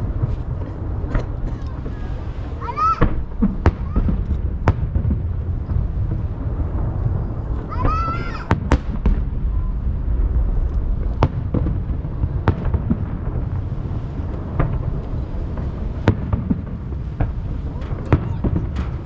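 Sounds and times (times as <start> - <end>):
echoing low rumble: 0.0 - 19.0
fireworks bangs: 0.0 - 19.0.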